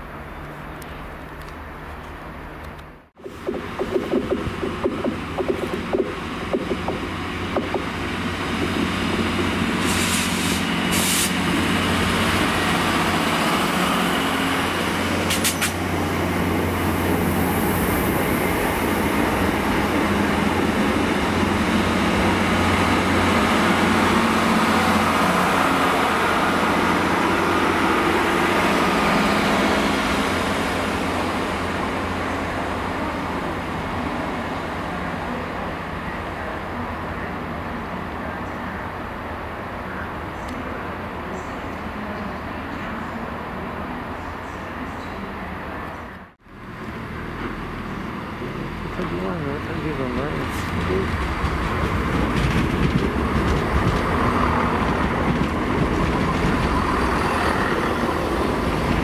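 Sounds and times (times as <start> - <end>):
passenger train running: 0.0 - 59.0.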